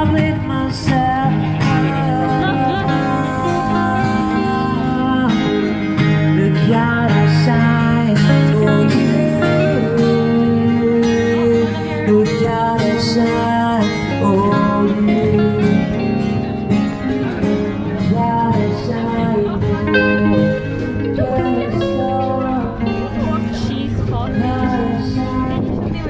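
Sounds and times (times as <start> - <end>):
guitar playing: 0.0 - 26.0
person singing: 0.0 - 26.0.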